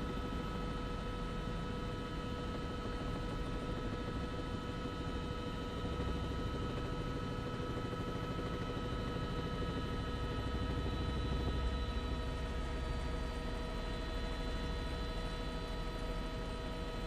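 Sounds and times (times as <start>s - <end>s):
helicopter cabin rumble: 0.0s - 17.0s.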